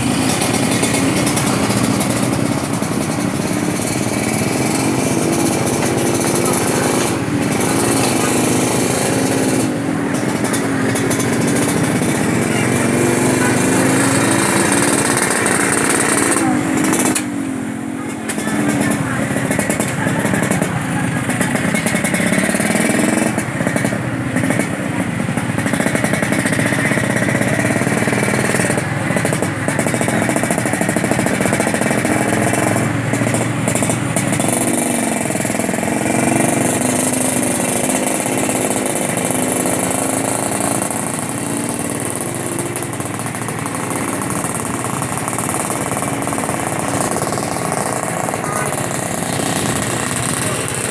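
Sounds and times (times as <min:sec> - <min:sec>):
traffic engines running: 0:00.0 - 0:50.9
voices: 0:00.0 - 0:50.9.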